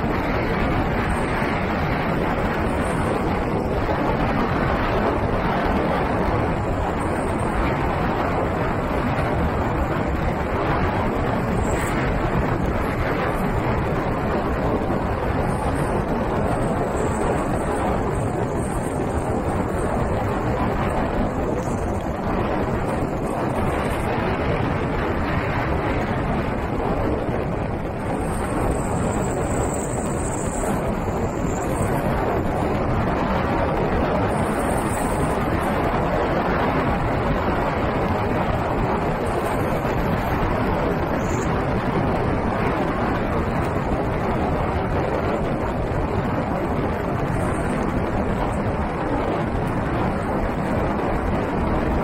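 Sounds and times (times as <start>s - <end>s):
vehicle driving on dirt road: 0.0s - 52.0s
wind on microphone: 0.0s - 52.0s.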